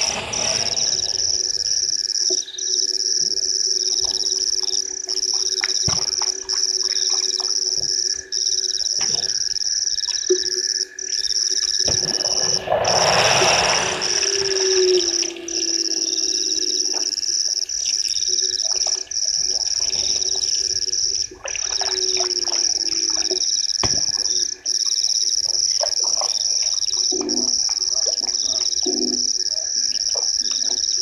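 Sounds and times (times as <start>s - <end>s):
drawn-out lower frog calls: 0.0s - 31.0s
high-pitched insect ringing: 0.1s - 31.0s.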